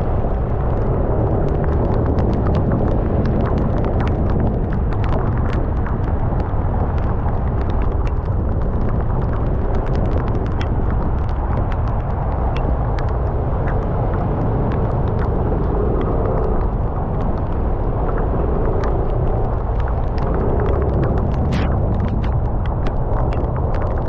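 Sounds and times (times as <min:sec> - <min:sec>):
raindrops ticking on camera: 0:00.0 - 0:24.0
wind and road noise rumble: 0:00.0 - 0:24.0.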